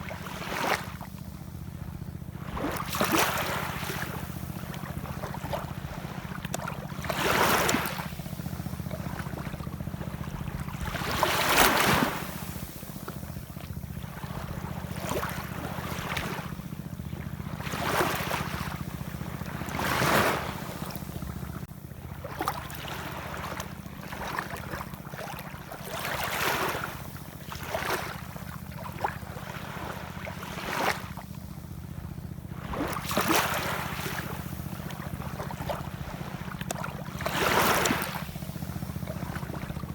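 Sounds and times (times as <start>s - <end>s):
ocean waves washing in: 2.4s - 39.9s.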